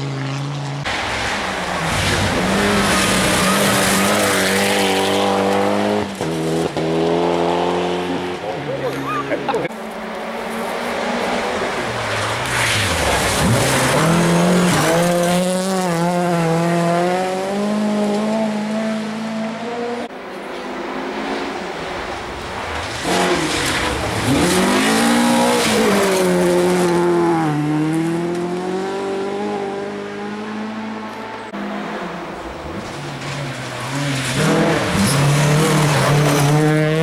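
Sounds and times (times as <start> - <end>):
rally cars passing at high revs: 0.0 - 37.0.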